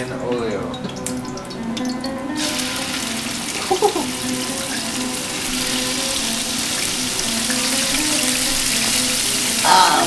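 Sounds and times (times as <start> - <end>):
chicken sizzling in oil: 1.0 - 10.0.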